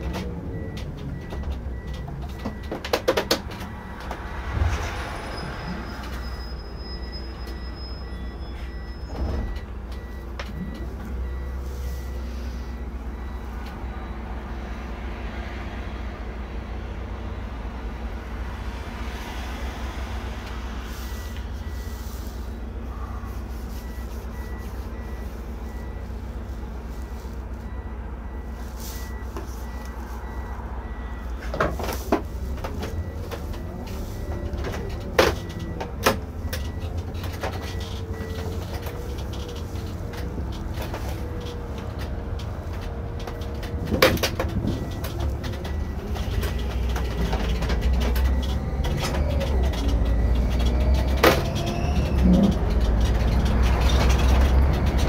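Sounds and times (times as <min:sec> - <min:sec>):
coach engine rumble: 0:00.0 - 0:55.0.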